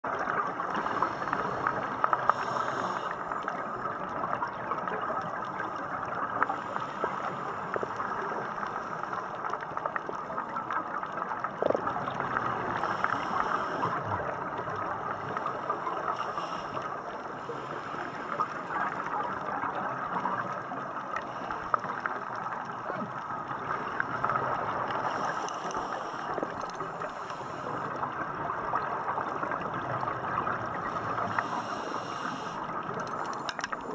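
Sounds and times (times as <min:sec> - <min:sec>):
faint clicks and crackles: 0:00.0 - 0:33.9
exhaled regulator bubbles hissing: 0:00.1 - 0:09.6, 0:11.6 - 0:33.9
muffled underwater hiss: 0:00.1 - 0:33.9.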